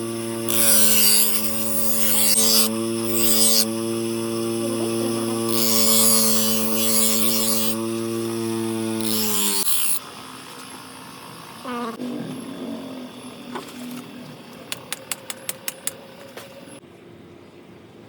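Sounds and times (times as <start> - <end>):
harsh grinding noise: 0.0 - 16.8
power tool motor humming: 0.0 - 16.8.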